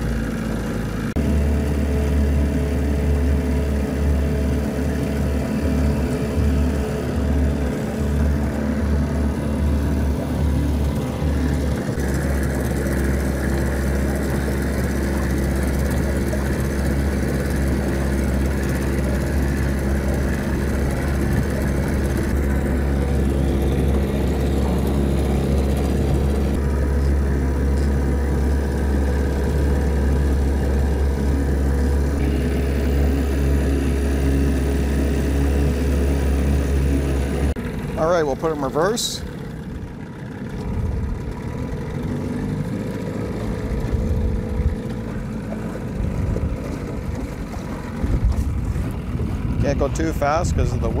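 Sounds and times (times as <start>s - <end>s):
outboard motor idling: 0.0s - 51.0s.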